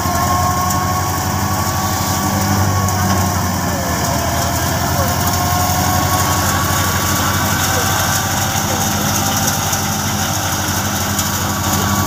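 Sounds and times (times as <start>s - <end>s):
thin steady whine: 0.0s - 12.0s
thresher whirring: 0.0s - 12.0s
tractor engine drone: 0.0s - 12.0s.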